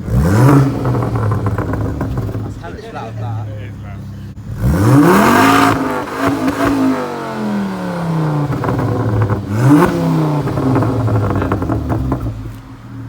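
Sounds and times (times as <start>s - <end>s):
car engine revving: 0.0s - 13.0s
exhaust cracks: 0.0s - 13.0s.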